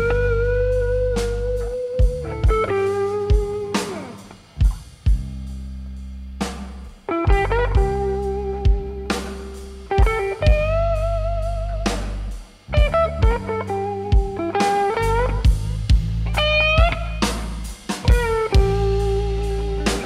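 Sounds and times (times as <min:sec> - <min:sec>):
electric guitar lead: 0:00.0 - 0:06.2, 0:06.8 - 0:20.0
drum kit: 0:00.0 - 0:20.0
electric bass: 0:00.0 - 0:20.0.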